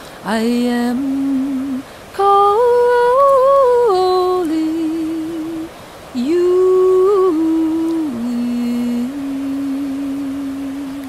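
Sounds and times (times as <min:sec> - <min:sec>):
woman singing wordless notes: 0:00.2 - 0:11.0.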